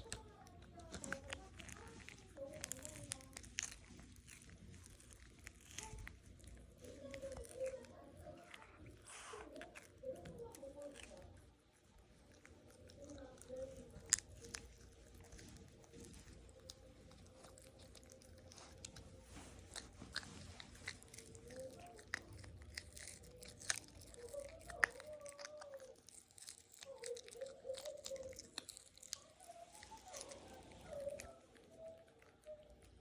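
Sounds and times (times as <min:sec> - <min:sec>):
pet crunching a hard treat: 0:00.0 - 0:33.0.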